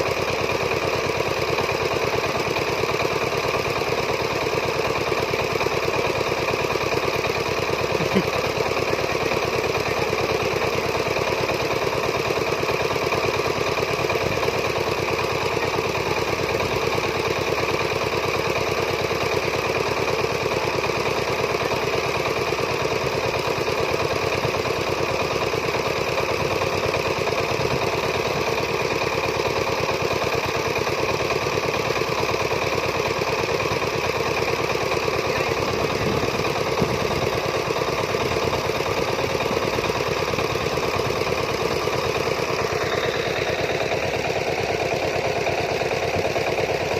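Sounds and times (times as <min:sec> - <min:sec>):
diesel engine knocking steadily: 0:00.0 - 0:46.9.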